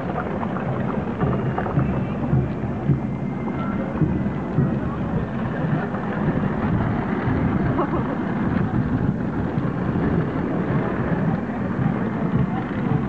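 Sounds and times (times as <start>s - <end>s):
crowd murmuring: 0.0s - 13.0s
steady rumbling noise: 0.0s - 13.0s.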